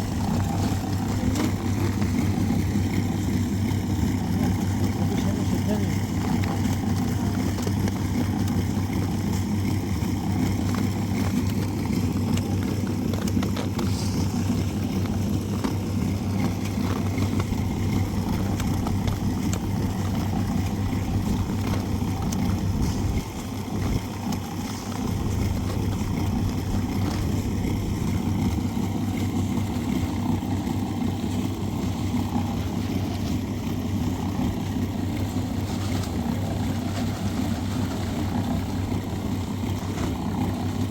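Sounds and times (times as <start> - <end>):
engine drone: 0.0 - 40.9.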